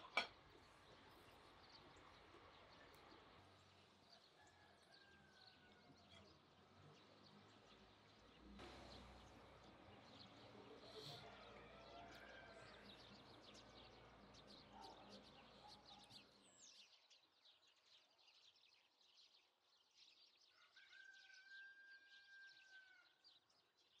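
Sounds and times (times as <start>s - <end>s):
birds chirping: 0.0s - 20.1s.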